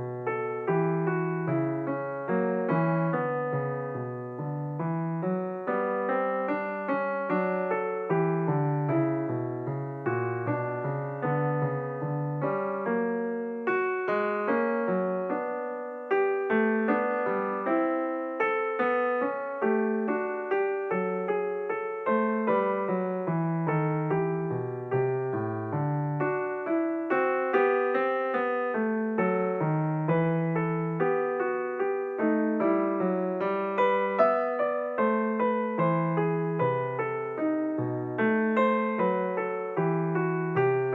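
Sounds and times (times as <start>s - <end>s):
piano minuet: 0.0s - 40.9s.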